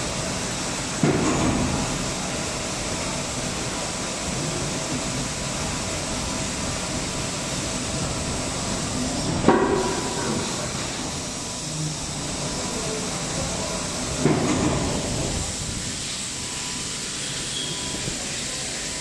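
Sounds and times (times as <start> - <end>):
injection moulding machine running: 0.0 - 19.0.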